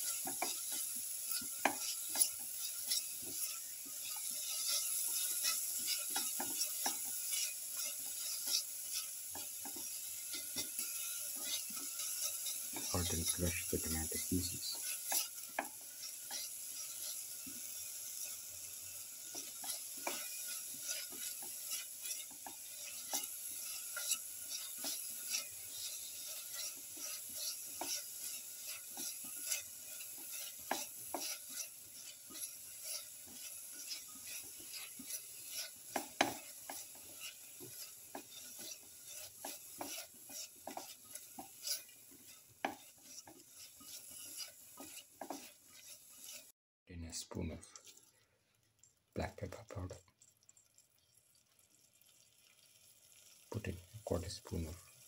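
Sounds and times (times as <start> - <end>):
spatula scraping pot bottom: 0.0 - 46.5
tomatoes sizzling in hot oil: 0.0 - 55.0.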